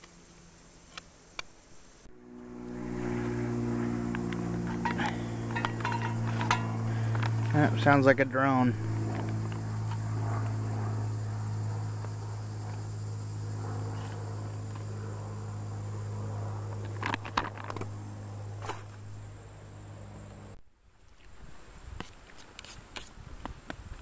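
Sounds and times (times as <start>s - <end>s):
low droning hum: 0.0s - 20.6s.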